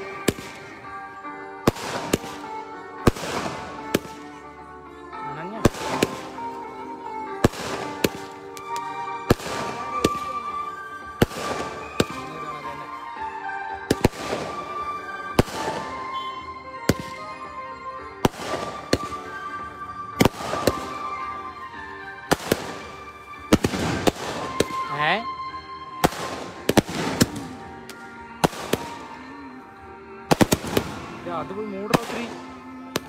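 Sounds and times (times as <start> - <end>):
fireworks banging: 0.0 - 4.4, 5.5 - 25.2, 25.9 - 29.5, 30.2 - 33.0
music: 0.0 - 33.0.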